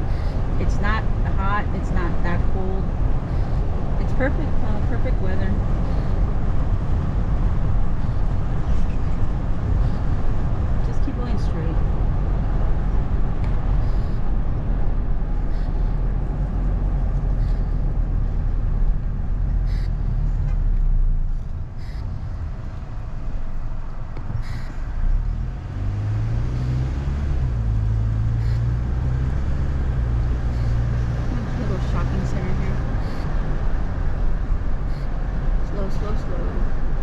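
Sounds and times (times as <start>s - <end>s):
car engine hum: 0.0s - 37.0s
road and tyre rumble: 0.0s - 37.0s.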